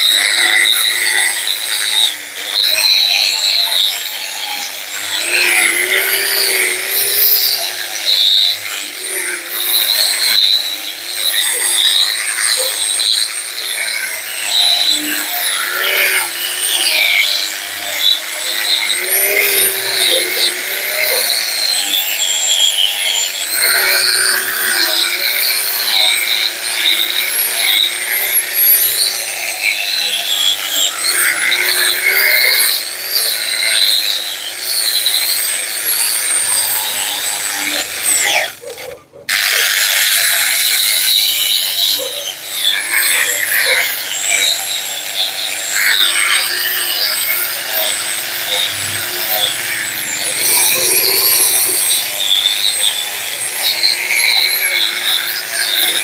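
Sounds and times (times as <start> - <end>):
electric grinder motor whine: 0.0 - 56.0
grinding wheel scraping metal: 0.0 - 56.0.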